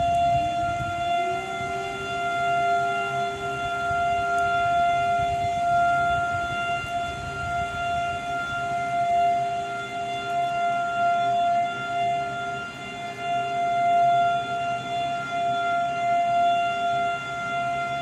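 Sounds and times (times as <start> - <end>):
air raid siren wailing: 0.0 - 18.0.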